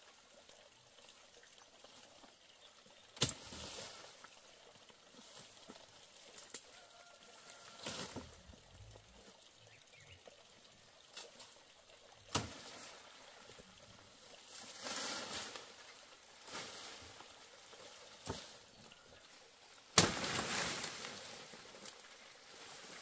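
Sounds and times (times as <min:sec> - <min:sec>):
rustling leaves and stalks: 0:00.0 - 0:23.0.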